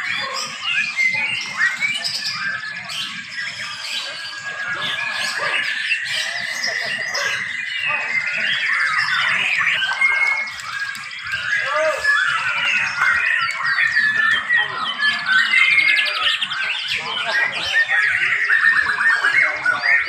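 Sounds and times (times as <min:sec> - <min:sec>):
birds singing in chorus: 0:00.0 - 0:20.0.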